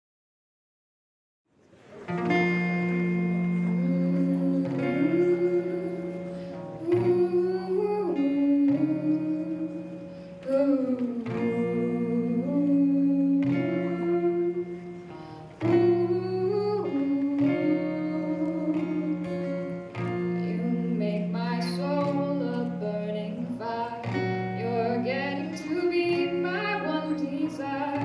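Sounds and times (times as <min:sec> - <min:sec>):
acoustic guitar strumming chords: 0:02.1 - 0:28.0
person singing: 0:02.3 - 0:28.0.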